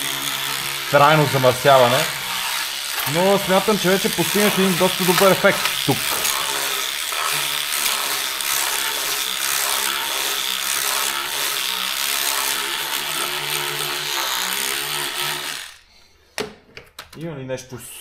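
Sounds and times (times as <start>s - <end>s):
electric cleaning brush scrubbing: 0.0s - 15.8s.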